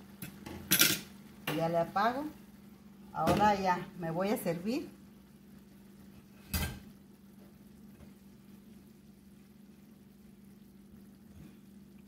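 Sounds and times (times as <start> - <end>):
faint low hum: 1.2 - 12.0.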